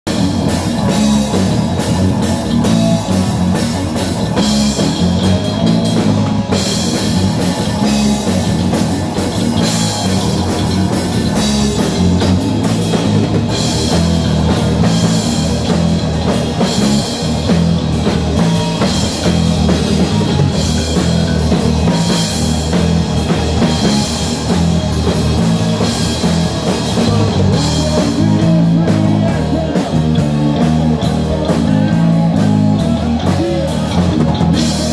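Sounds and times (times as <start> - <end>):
bass guitar: 0.0 - 34.9
drum kit: 0.0 - 34.9
electric guitar: 0.1 - 34.9.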